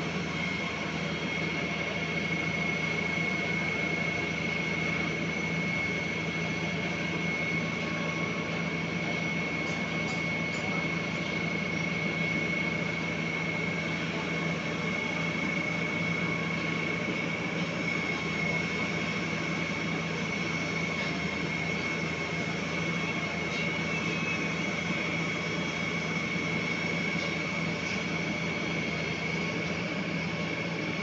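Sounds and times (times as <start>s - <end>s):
diesel engine drone: 0.0s - 31.0s
high-pitched whine: 0.0s - 31.0s.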